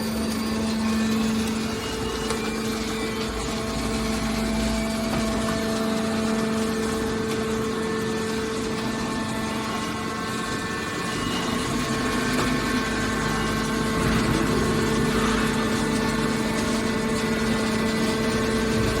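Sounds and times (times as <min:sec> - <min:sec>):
hydraulic power unit humming: 0:00.0 - 0:19.0.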